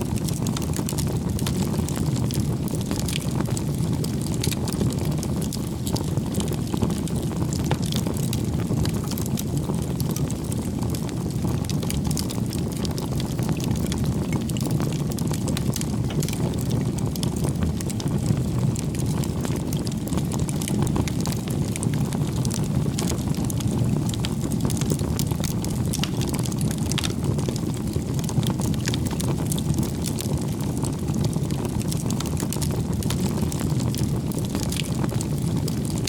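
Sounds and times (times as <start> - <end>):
bonfire flames rushing: 0.0 - 36.0
fire crackling and popping: 0.0 - 36.0.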